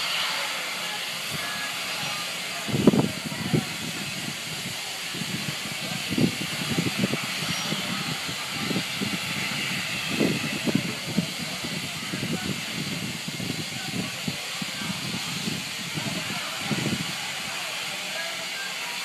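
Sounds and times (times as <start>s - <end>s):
steam locomotive hissing: 0.0s - 19.0s
voices nearby: 0.0s - 19.0s.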